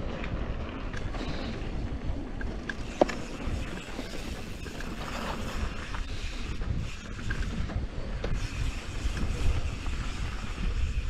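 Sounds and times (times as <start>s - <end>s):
mountain bike rattling on dirt trail: 0.0s - 11.0s
wind buffeting microphone: 0.0s - 11.0s.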